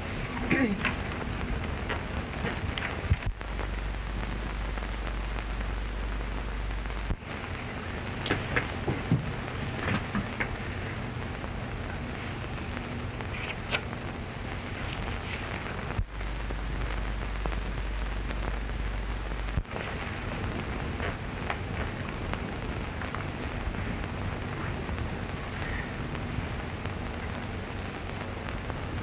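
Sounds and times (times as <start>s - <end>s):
crackles: 0.0s - 29.0s
film soundtrack hiss: 0.0s - 29.0s
low hum: 0.0s - 29.0s.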